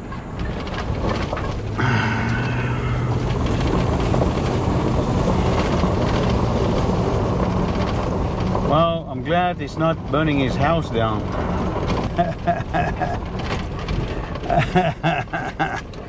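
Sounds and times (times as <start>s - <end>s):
engine hum: 0.0s - 16.0s
tyres crunching on gravel: 0.0s - 16.0s.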